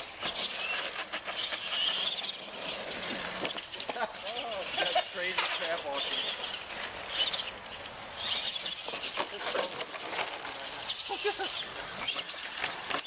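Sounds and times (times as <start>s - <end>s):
rc truck motor: 0.0s - 13.0s
tyres on dirt: 0.0s - 13.0s.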